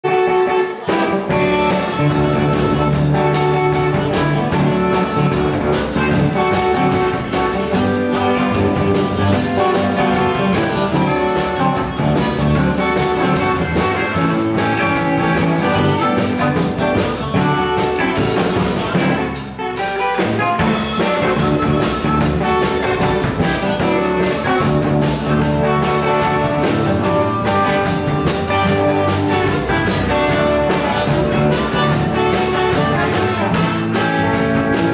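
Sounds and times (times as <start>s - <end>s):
electric guitars: 0.0s - 34.9s
drum kit beat: 0.1s - 34.9s
harmonica: 0.6s - 18.9s, 19.8s - 34.9s.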